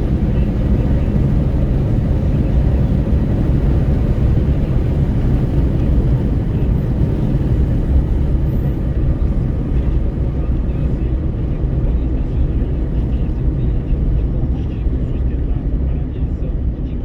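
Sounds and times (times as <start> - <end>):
wind buffeting through car window: 0.0 - 15.9
road noise: 0.0 - 17.0.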